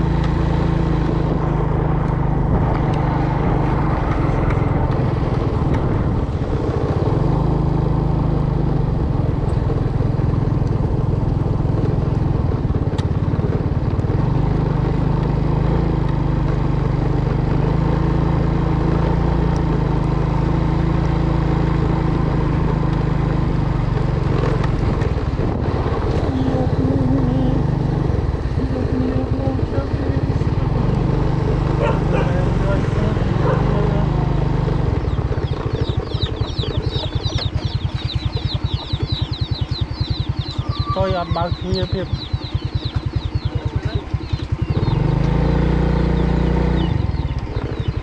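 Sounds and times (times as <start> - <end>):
small engine running: 0.0 - 48.0.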